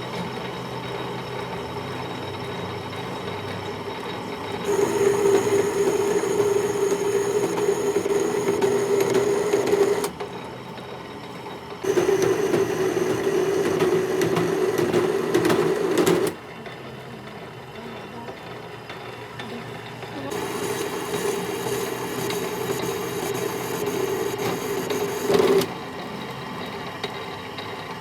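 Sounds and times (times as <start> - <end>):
workshop machine buzzing: 0.0 - 28.0
quiet machine hum: 3.4 - 26.3.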